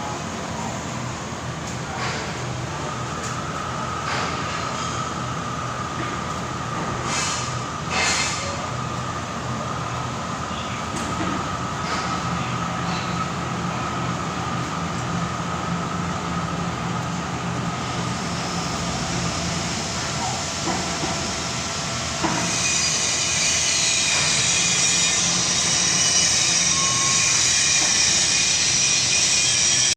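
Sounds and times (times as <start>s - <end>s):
lathe hum with high whine: 0.0s - 29.9s.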